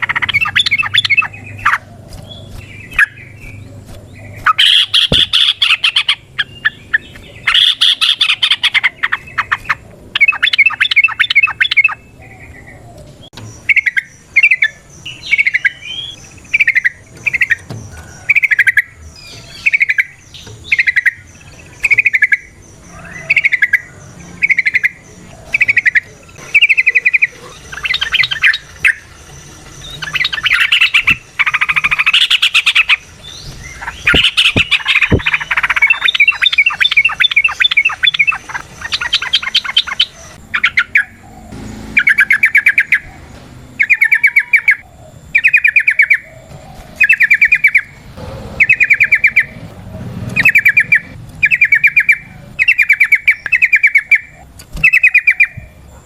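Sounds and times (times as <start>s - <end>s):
bird singing bubbling chatter: 0.0s - 56.0s.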